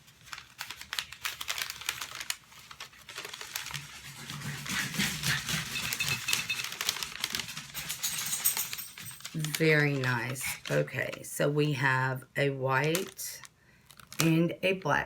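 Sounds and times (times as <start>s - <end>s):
packaging crinkling and rustling: 0.0s - 11.9s, 12.8s - 14.4s.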